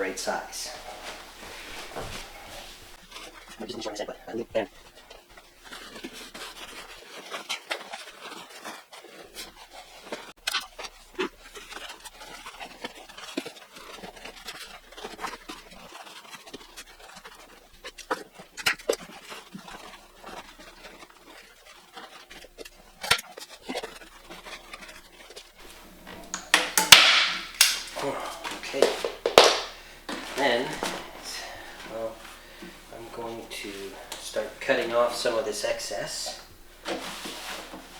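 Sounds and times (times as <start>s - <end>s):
pond liner rustling: 0.0s - 37.9s.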